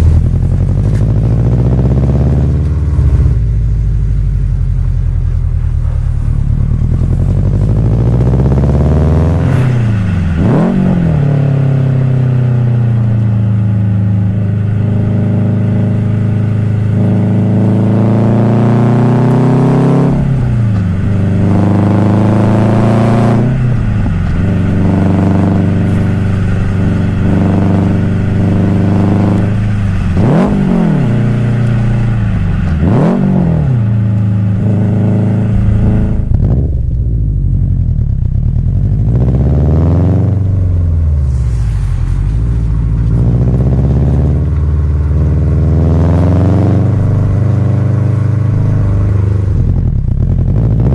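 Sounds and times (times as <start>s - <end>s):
car engine running hard: 0.0s - 50.9s.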